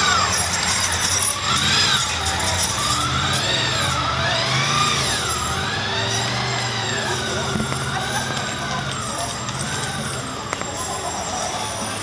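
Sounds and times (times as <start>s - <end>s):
siren wailing: 1.4s - 11.1s.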